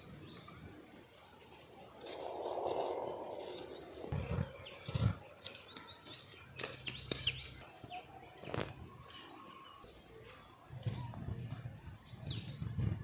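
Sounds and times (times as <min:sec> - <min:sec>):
small birds chirping: 0:01.4 - 0:13.0.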